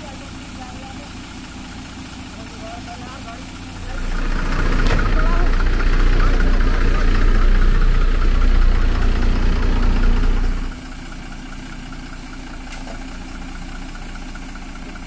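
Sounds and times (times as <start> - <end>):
diesel lorry engine idling: 0.0 - 15.0.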